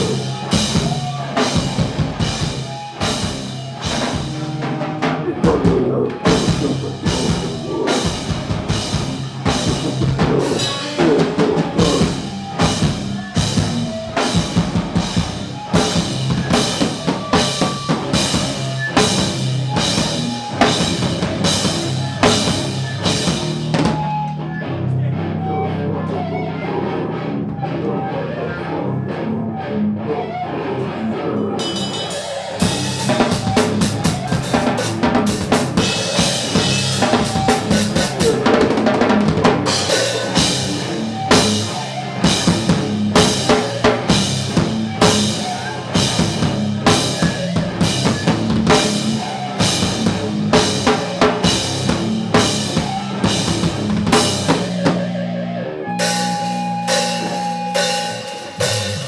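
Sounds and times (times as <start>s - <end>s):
drum kit: 0.0s - 24.4s, 31.6s - 59.0s
electric guitar: 0.0s - 59.0s.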